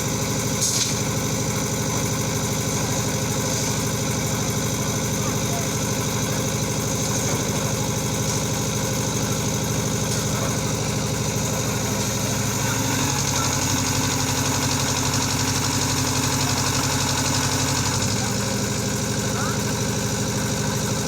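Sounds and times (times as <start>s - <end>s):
concrete mixer engine running: 0.0s - 21.0s.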